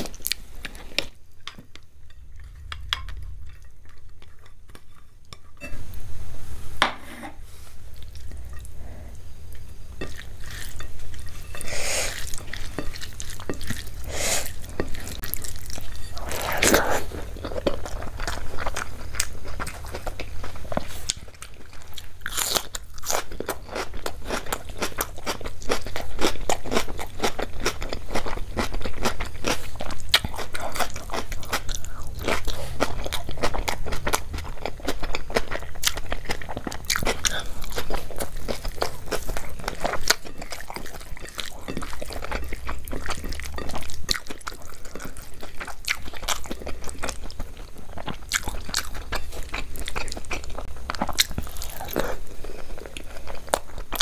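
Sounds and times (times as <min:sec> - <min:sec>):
person chewing crunchy food: 0:00.0 - 0:05.5, 0:07.9 - 0:54.0.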